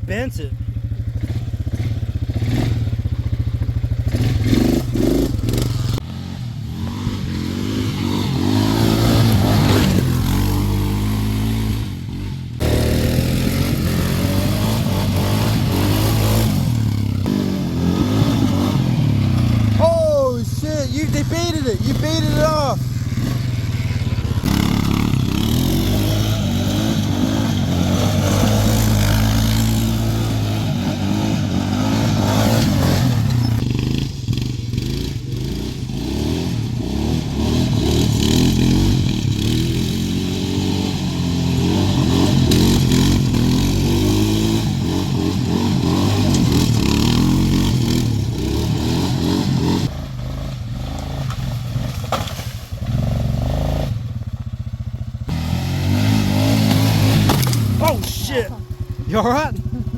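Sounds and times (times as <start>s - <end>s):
atv engine revving under load: 0.0s - 52.2s, 52.8s - 59.9s.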